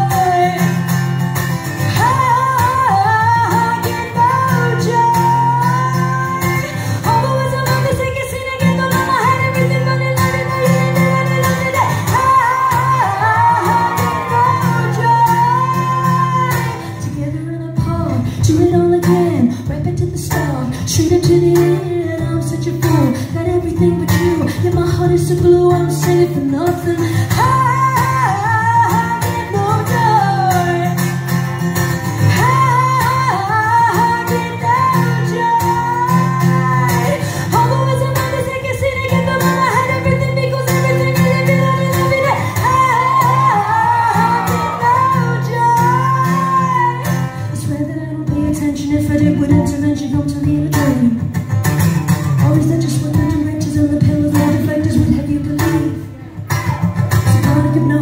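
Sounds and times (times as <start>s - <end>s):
woman singing: 0.0s - 51.4s, 52.2s - 56.3s, 57.2s - 58.0s
strummed acoustic guitar: 0.0s - 58.0s.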